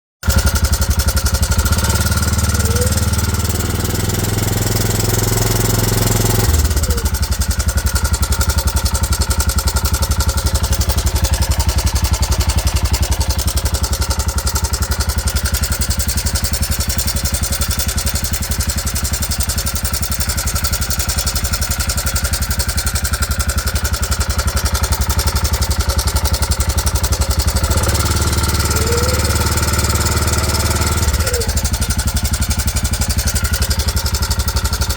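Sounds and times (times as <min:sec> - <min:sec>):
atv engine idling: 0:00.2 - 0:34.9.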